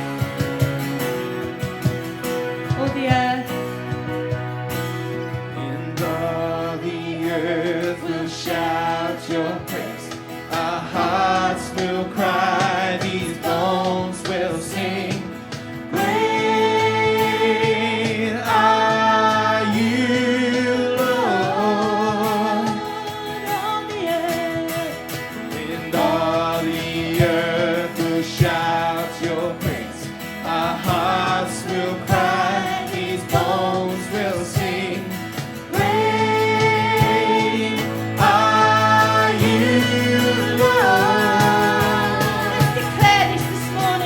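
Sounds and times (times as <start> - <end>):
worship band playing: 0.0 - 44.0.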